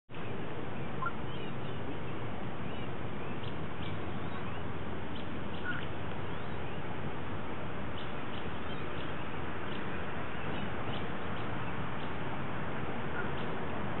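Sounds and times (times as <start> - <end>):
outdoor background noise: 0.1 - 14.0
small birds chirping: 0.1 - 14.0.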